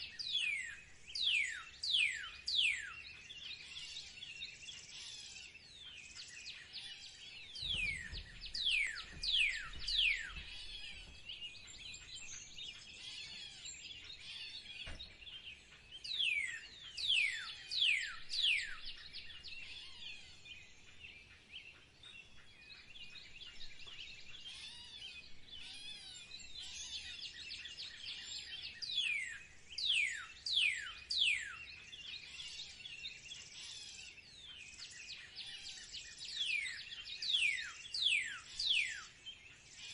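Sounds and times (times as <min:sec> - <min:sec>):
birds singing and chattering: 0:00.0 - 0:39.9.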